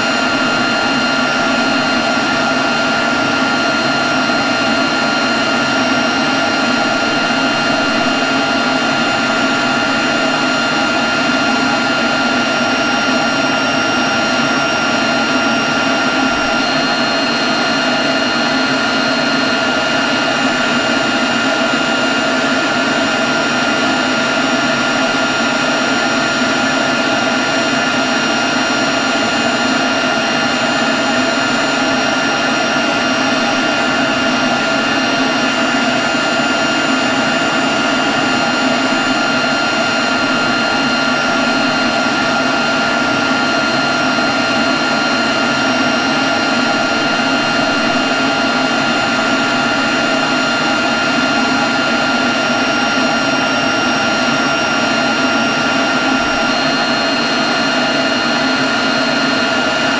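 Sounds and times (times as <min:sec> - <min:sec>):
leaf blower running: 0:00.0 - 0:59.9.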